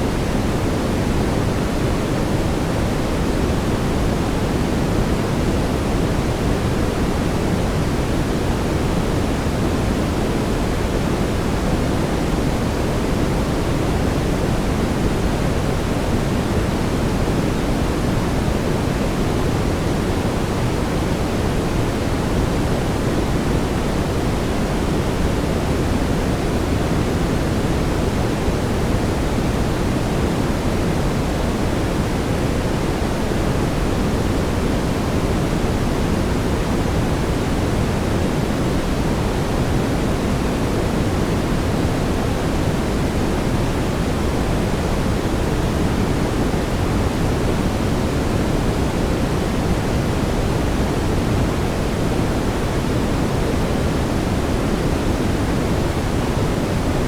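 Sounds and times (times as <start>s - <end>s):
steady brown noise: 0.0s - 57.0s.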